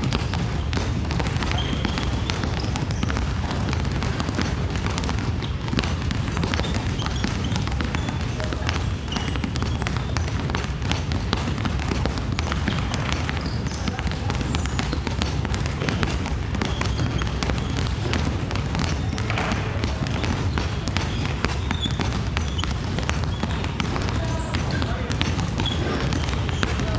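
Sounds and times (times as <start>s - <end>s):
basketballs bouncing on wooden floor: 0.0s - 26.9s.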